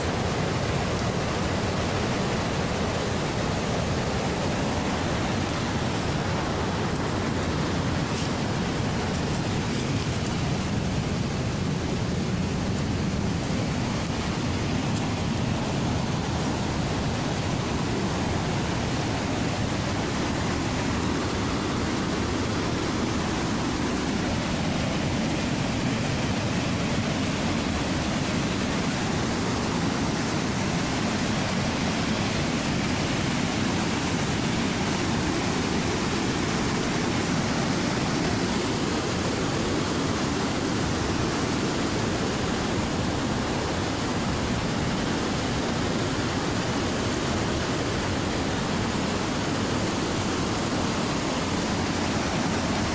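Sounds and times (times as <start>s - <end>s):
river rushing over rapids: 0.0s - 52.9s.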